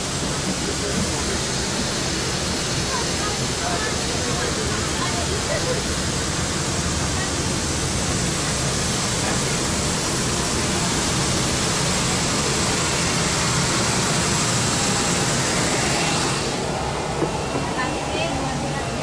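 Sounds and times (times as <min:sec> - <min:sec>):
jet aircraft roar: 0:00.0 - 0:19.0.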